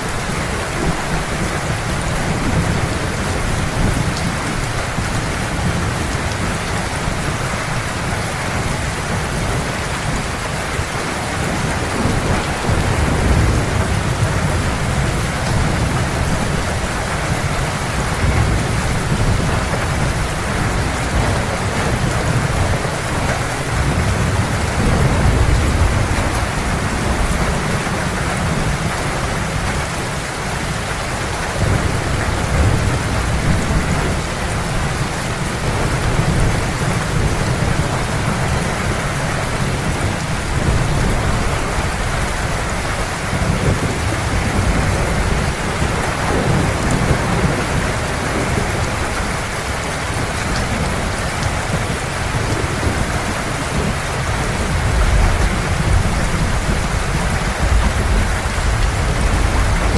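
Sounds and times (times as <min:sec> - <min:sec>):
heavy rain falling: 0:00.0 - 0:59.9
rolling thunder rumble: 0:00.0 - 0:59.9.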